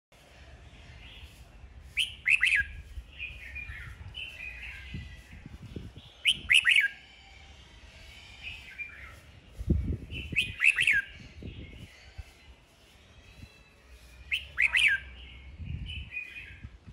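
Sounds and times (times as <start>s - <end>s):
bird singing bright phrases: 0.7s - 7.0s, 7.8s - 16.8s.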